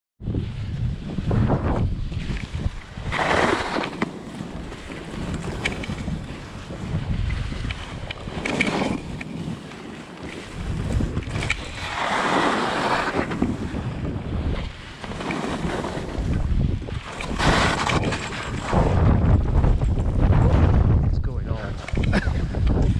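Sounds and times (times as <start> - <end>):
gusty wind buffeting microphone: 0.2 - 22.9.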